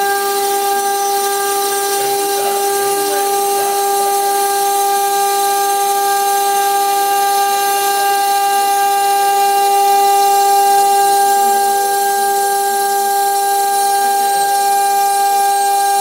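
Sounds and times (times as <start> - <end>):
router spindle whining: 0.0 - 16.0
water spray hissing: 0.0 - 16.0.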